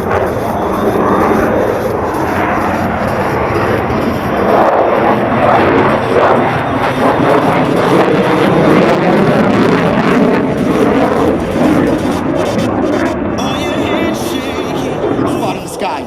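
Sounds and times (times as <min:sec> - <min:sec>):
jet roar in flight: 0:00.0 - 0:16.0.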